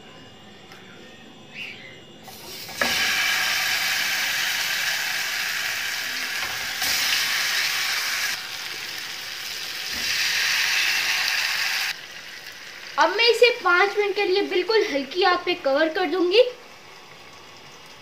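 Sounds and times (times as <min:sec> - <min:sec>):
chicken sizzling in hot ghee: 0:02.3 - 0:18.0.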